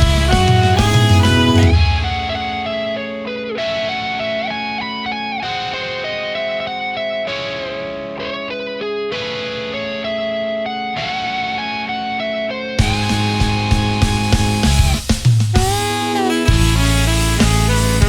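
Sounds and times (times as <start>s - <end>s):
electric guitar slow melody: 0.0s - 15.0s, 15.6s - 18.0s.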